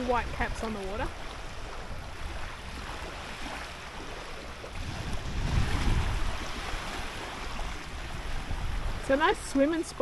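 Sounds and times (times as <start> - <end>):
waves washing: 0.0 - 10.0
wind buffeting microphone: 0.0 - 10.0.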